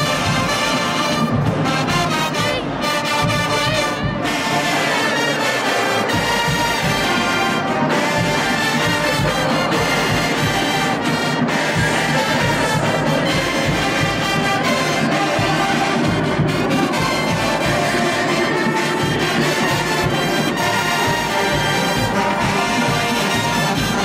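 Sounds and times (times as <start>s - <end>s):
marching band brass playing: 0.0s - 24.0s.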